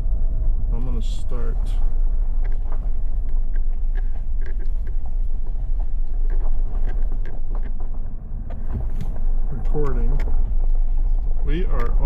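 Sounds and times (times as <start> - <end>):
vehicle rumble on rough road: 0.0 - 12.0
small clicks and rattles: 1.6 - 12.0.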